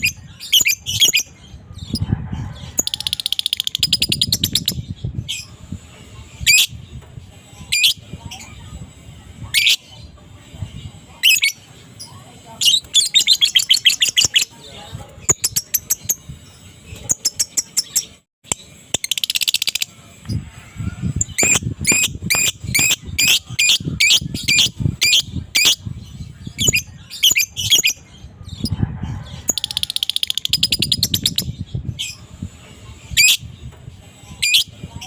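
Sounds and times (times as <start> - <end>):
lovebird chattering song: 0.0 - 2.1, 2.7 - 20.4, 21.1 - 35.0.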